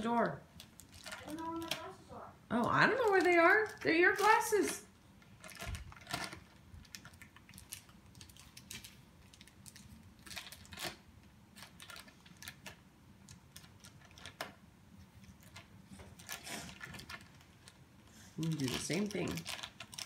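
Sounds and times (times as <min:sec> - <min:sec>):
plastic wrapping crinkling: 0:00.0 - 0:14.6, 0:15.2 - 0:17.8, 0:18.4 - 0:20.0.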